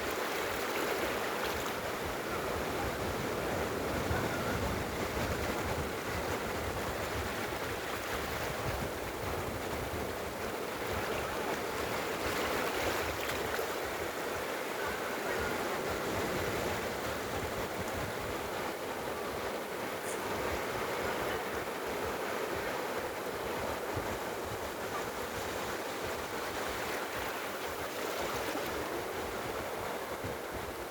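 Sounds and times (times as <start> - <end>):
sea waves washing onto beach: 0.0 - 30.9.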